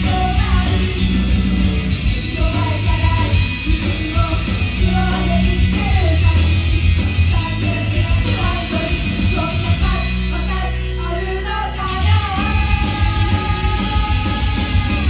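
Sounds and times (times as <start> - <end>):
woman singing: 0.0 - 1.3, 2.0 - 15.0
live rock music: 0.0 - 15.0.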